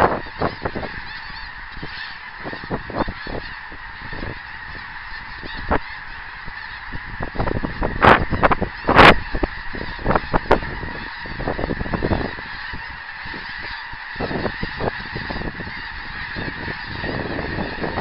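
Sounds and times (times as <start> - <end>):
geese honking in flight: 0.0 - 18.0.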